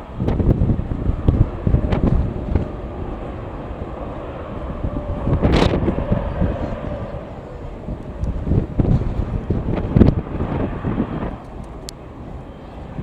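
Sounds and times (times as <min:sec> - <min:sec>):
distant jet engine whine: 0:00.0 - 0:13.0
wind buffeting microphone: 0:00.0 - 0:13.0.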